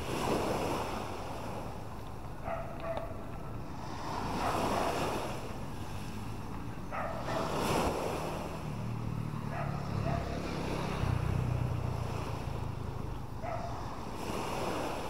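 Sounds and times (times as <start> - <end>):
waves washing onto sandy beach: 0.0 - 15.0.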